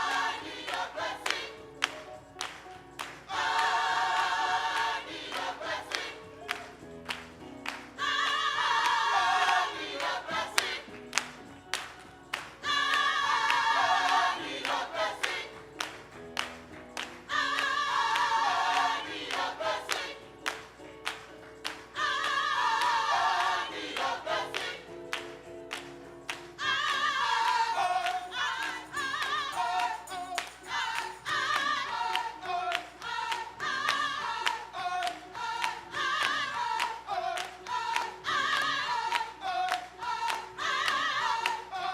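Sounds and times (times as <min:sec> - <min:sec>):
gospel choir singing: 0:00.0 - 0:41.9
hands clapping: 0:00.0 - 0:41.9.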